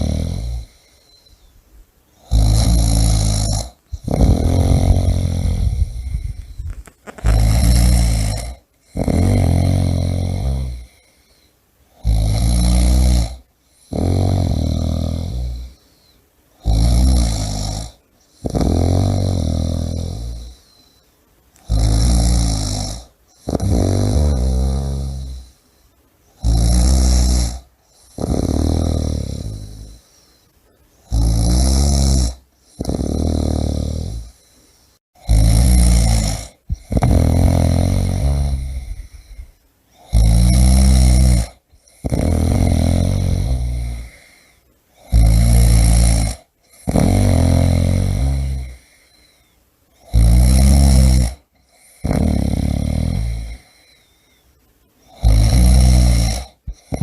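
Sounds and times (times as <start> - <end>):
person snoring loudly: 0.0 - 1.2, 2.2 - 11.2, 11.9 - 15.8, 16.6 - 20.8, 21.6 - 25.6, 26.4 - 30.2, 31.1 - 34.5, 35.2 - 49.3, 50.0 - 54.0, 55.1 - 57.0.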